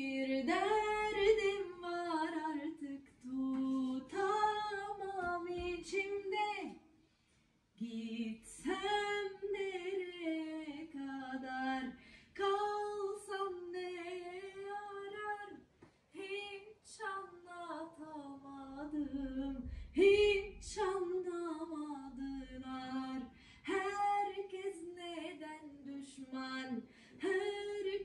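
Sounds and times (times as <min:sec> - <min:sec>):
woman singing unaccompanied: 0:00.0 - 0:06.8, 0:07.8 - 0:28.0.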